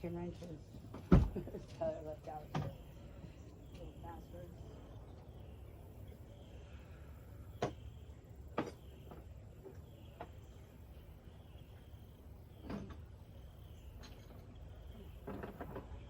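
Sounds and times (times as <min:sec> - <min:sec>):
low steady background: 0:00.0 - 0:16.0.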